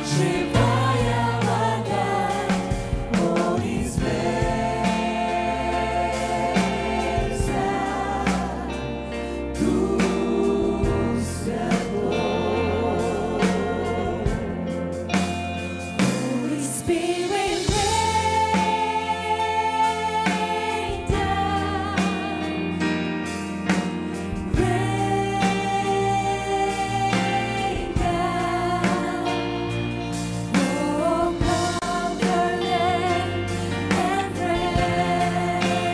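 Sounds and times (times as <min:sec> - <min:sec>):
guitar: 0:00.0 - 0:35.9
keyboard: 0:00.0 - 0:35.9
voices singing with vibrato: 0:00.0 - 0:35.9.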